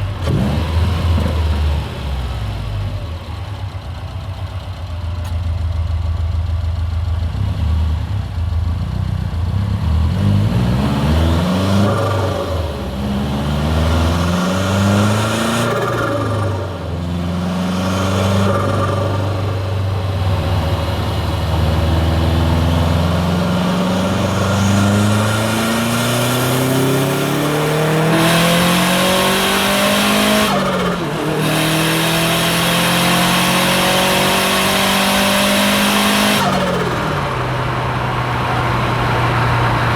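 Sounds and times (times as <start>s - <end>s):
car engine revving through gears: 0.0s - 3.4s, 9.4s - 39.9s.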